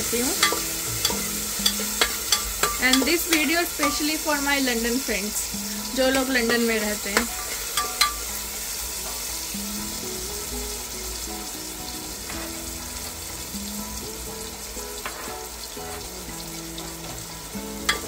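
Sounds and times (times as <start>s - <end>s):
onions frying in oil: 0.0s - 18.0s
quiet background music: 0.0s - 18.0s.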